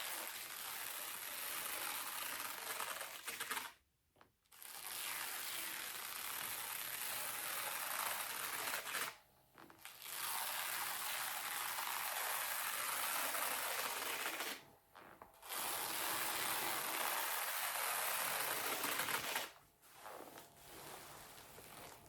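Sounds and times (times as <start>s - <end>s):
velcro strips ripping apart: 0.0s - 3.8s, 4.5s - 14.6s, 15.4s - 19.6s.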